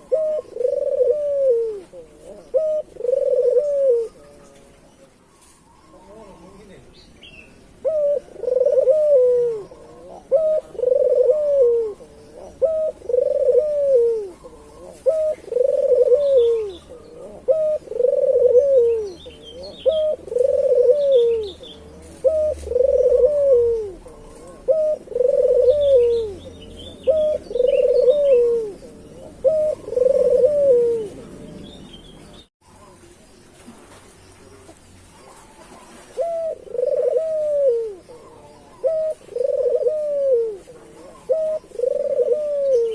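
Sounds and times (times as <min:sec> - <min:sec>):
dove cooing: 0:00.0 - 0:06.9, 0:07.7 - 0:33.1, 0:34.4 - 0:42.9
small birds chirping: 0:00.0 - 0:42.9.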